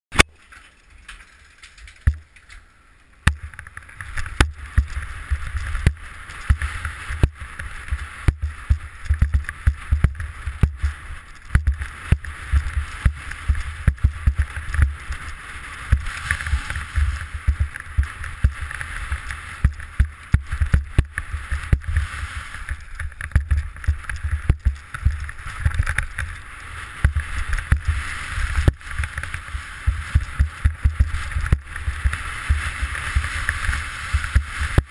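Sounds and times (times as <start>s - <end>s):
bike rattling over stones: 0.1s - 34.9s
wind buffeting microphone: 3.2s - 34.9s.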